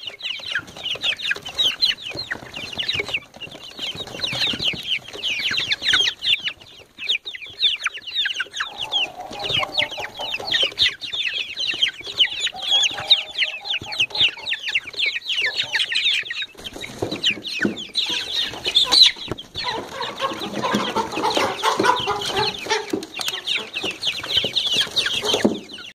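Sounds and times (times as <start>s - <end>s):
chicks peeping: 0.0s - 25.9s
low throaty chick calls: 3.9s - 25.9s.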